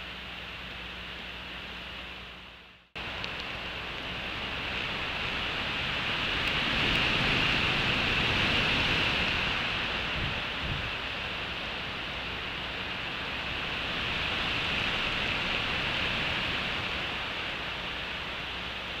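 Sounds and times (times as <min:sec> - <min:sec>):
rain falling: 0:03.0 - 0:19.0.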